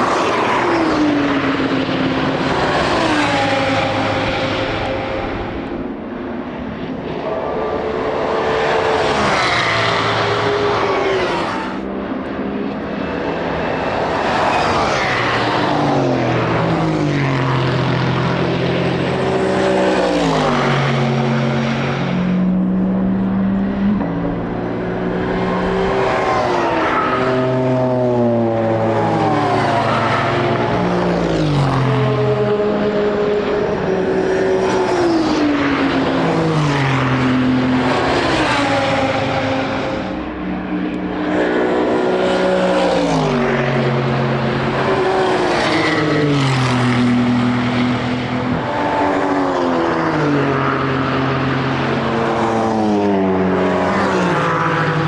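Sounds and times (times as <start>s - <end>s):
racing car engines passing: 0.0s - 55.0s.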